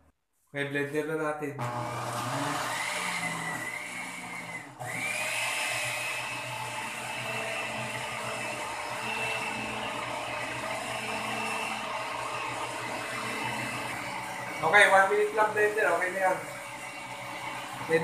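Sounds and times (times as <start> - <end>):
blender motor whine: 1.6 - 18.0.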